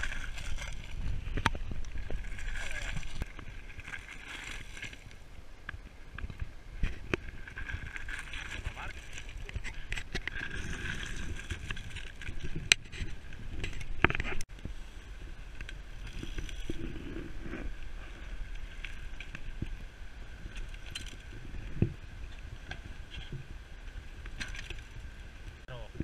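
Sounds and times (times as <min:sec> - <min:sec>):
bike rattling: 0:00.0 - 0:25.8.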